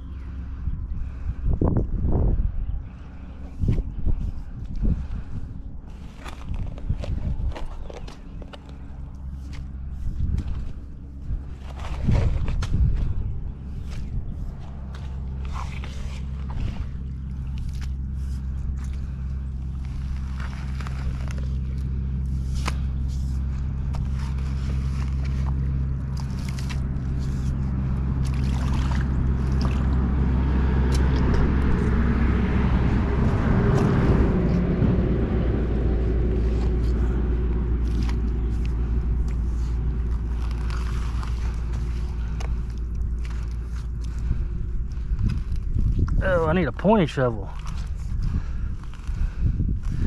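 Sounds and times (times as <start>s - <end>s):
loader engine running: 2.6s - 50.0s.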